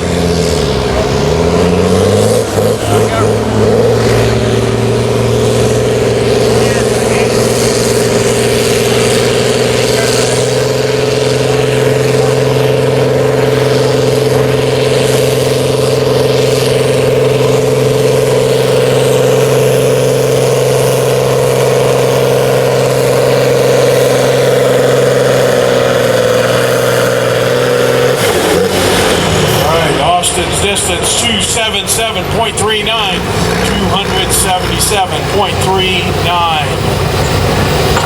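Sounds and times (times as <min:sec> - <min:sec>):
tractor engine under load: 0:00.0 - 0:38.0.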